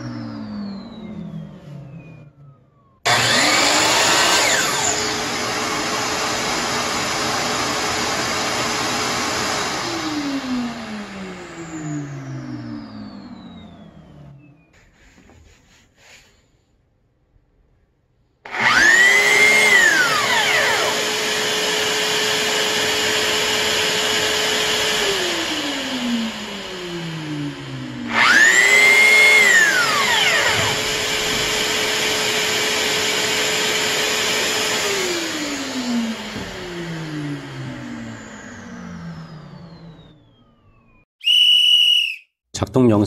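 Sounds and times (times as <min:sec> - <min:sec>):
extraction vacuum running: 0:00.0 - 0:14.7, 0:18.5 - 0:40.8
power tool whine: 0:00.0 - 0:14.7, 0:18.5 - 0:41.1.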